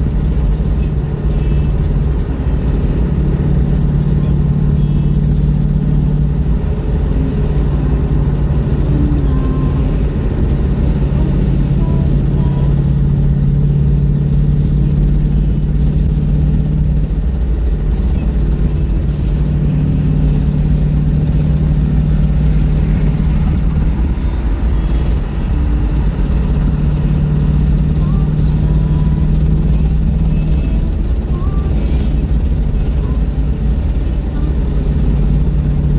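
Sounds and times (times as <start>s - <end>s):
car engine and tyres rumbling: 0.0s - 35.9s.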